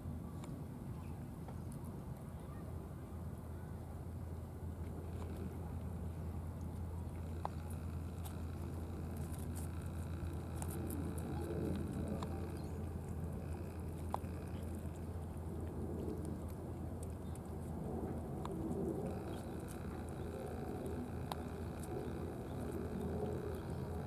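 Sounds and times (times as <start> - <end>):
low background rumble: 0.0 - 24.0
cats chewing food: 4.7 - 24.0.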